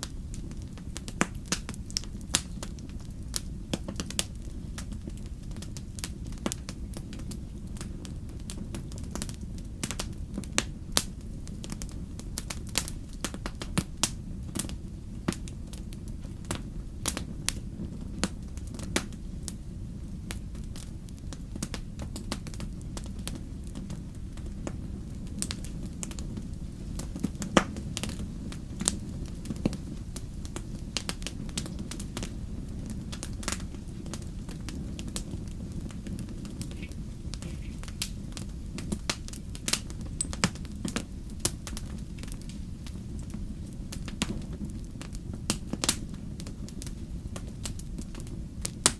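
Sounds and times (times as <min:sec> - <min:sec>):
fire crackling and popping: 0:00.0 - 0:48.9
low rumble of flames: 0:00.0 - 0:48.9.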